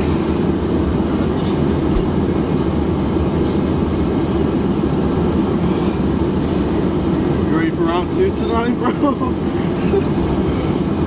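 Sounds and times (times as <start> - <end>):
car cabin low rumble: 0.0 - 11.0.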